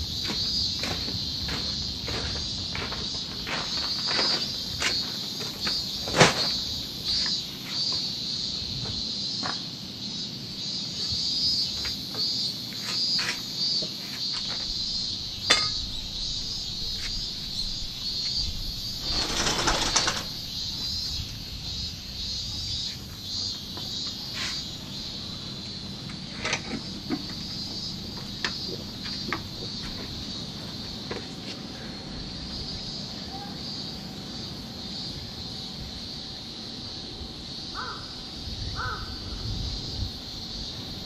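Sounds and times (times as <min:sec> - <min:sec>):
high-pitched insect chorus: 0:00.0 - 0:41.0.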